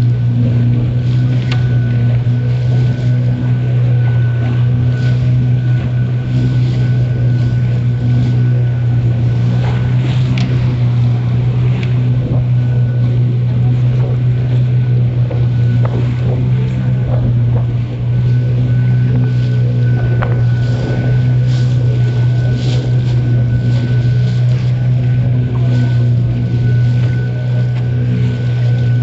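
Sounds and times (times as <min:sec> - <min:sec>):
boat engine running: 0:00.0 - 0:29.0
water splashing around hull: 0:00.0 - 0:29.0.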